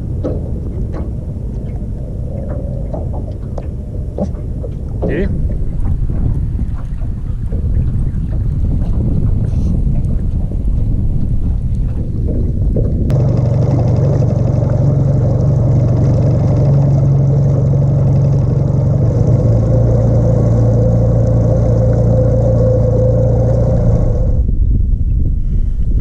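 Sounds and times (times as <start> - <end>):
outboard motor running: 0.0 - 24.5.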